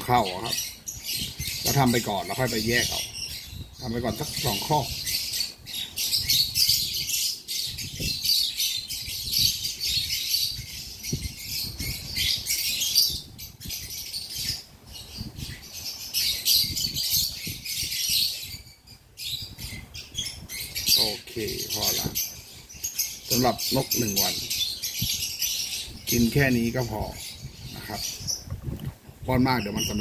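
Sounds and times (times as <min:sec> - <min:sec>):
birds chirping and chattering: 0:00.0 - 0:30.0.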